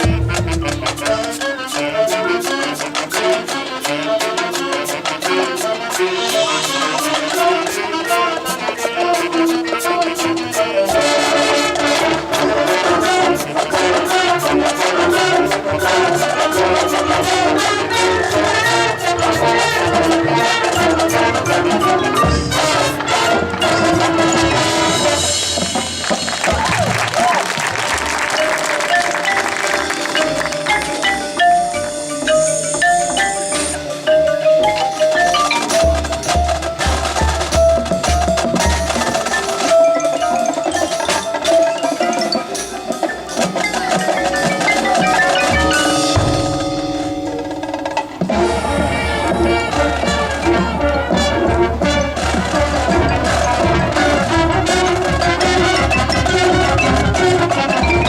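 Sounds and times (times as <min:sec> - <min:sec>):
brass chords: 0:00.0 - 0:58.0
drums: 0:00.0 - 0:58.0
mallet instruments: 0:00.0 - 0:58.0
percussion beat: 0:00.0 - 0:58.0.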